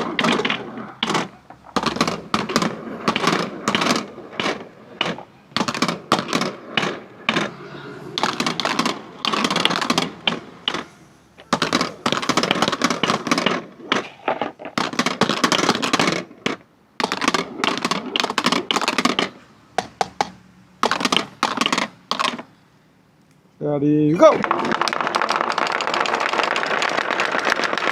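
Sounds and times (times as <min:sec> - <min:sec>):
marbles rolling down wooden ramps: 0:00.0 - 0:22.5, 0:24.2 - 0:27.9.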